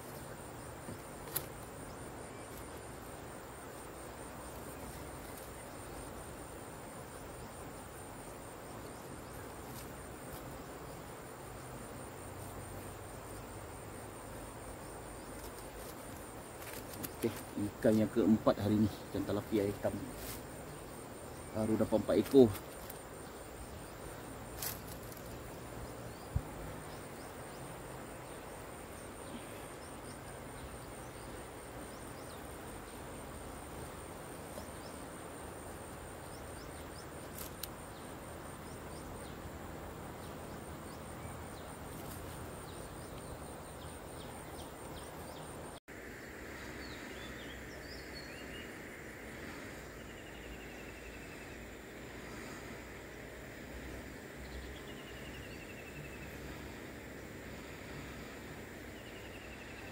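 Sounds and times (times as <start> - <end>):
insect pulsing trill: 0.0 - 59.9
outdoor background noise: 0.0 - 59.9.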